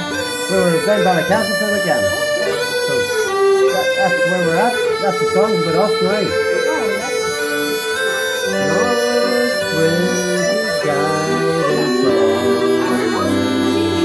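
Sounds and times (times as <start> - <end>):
harmonica: 0.0 - 14.0
uilleann pipes playing a tune: 0.0 - 14.0.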